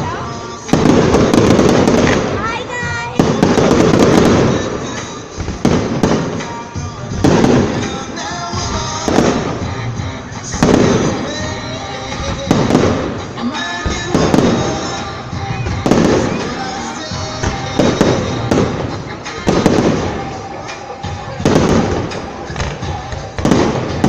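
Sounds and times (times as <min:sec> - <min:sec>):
firework crackling: 0:00.0 - 0:24.0
music playing: 0:00.0 - 0:24.0
firework shells booming: 0:00.6 - 0:09.7, 0:10.3 - 0:24.0.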